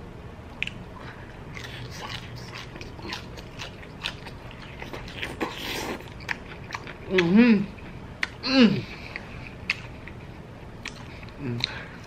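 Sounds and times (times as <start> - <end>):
man chewing crunchy food: 0.6 - 12.0.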